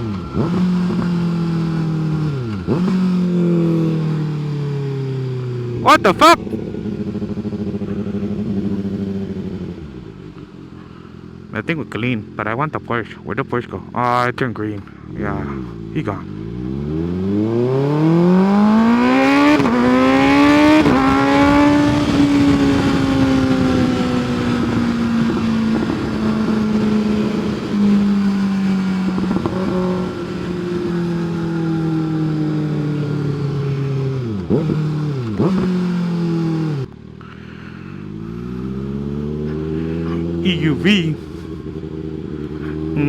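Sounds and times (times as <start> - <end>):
motorcycle engine accelerating: 0.0 - 14.2, 14.8 - 43.0.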